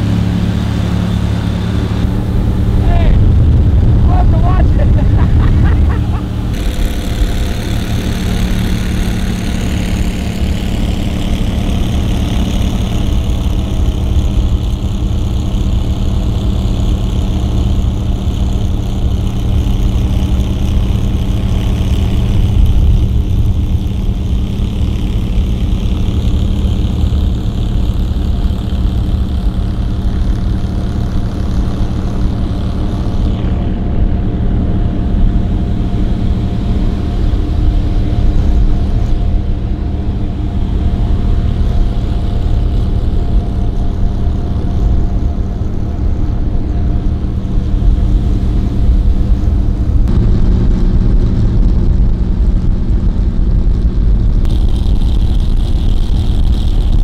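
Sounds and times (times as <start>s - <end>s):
outboard motor droning: 0.0s - 57.0s.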